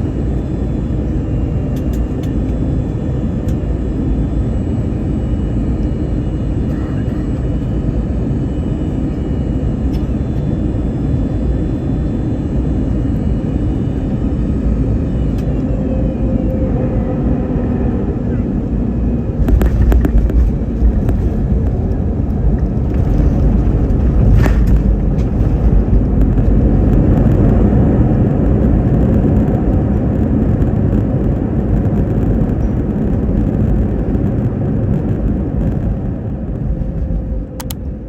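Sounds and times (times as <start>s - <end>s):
airliner cabin rumble: 0.0s - 38.0s.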